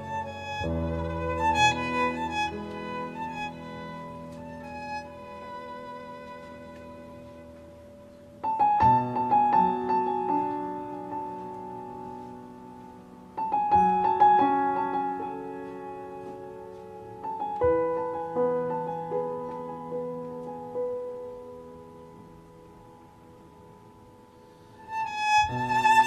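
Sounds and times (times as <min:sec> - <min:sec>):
background piano music: 0:00.0 - 0:26.0.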